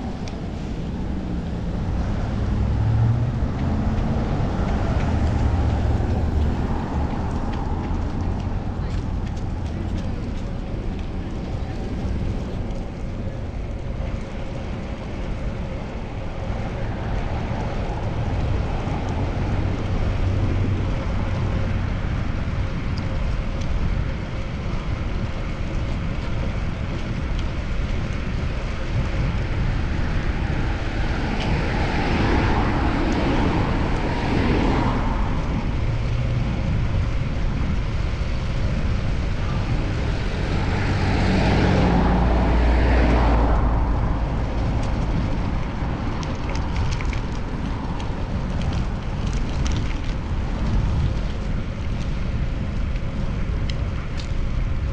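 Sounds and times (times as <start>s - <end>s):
vehicle passing: 0.0s - 23.6s, 27.9s - 52.7s
street traffic rumble: 0.0s - 54.9s.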